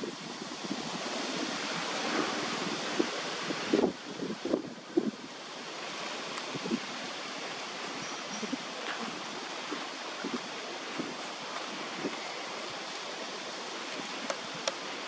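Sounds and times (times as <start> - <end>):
outdoor rushing hiss: 0.0 - 15.0.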